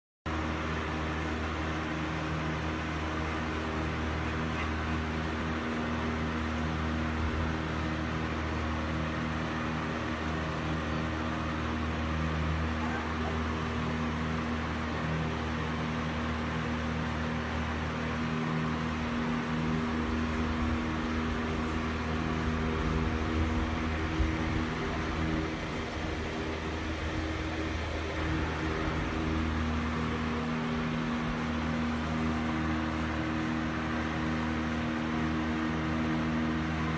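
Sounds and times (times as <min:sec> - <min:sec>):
mechanical hum: 0:00.3 - 0:36.9.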